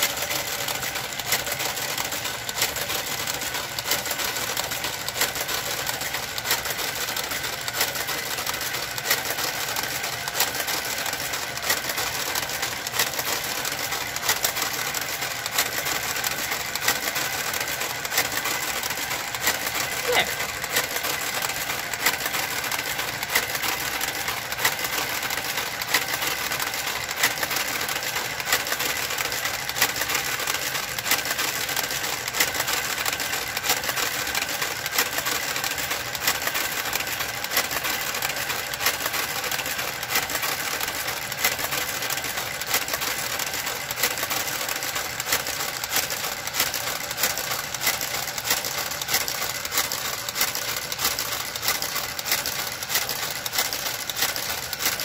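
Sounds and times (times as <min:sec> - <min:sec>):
fast clicking of needles: 0:00.0 - 0:55.0
knitting machine motor whir: 0:00.0 - 0:55.0.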